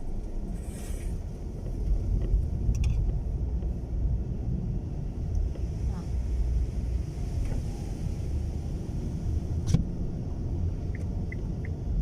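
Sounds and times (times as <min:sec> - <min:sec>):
road and engine rumble: 0:00.0 - 0:12.0
wind buffeting car body: 0:01.2 - 0:12.0.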